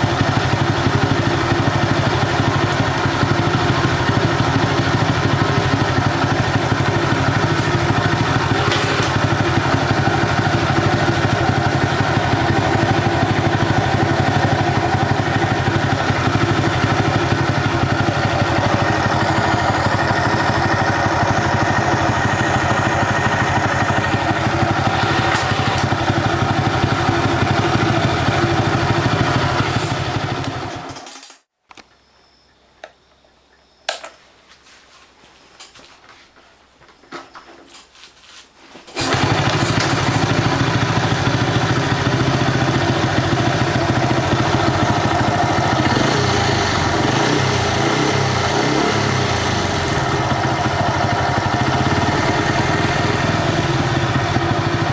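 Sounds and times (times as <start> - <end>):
motorcycle engine running: 0.0 - 31.0, 39.0 - 54.9.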